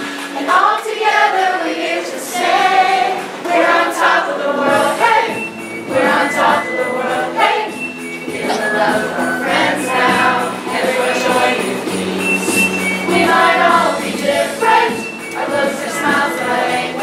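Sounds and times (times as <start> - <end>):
children and adults choir singing: 0.0 - 17.0.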